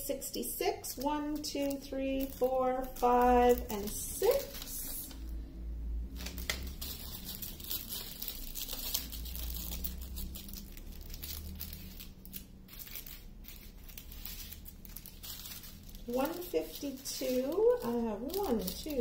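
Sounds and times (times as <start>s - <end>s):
plastic bags crinkling: 0.4s - 5.4s, 6.0s - 19.0s.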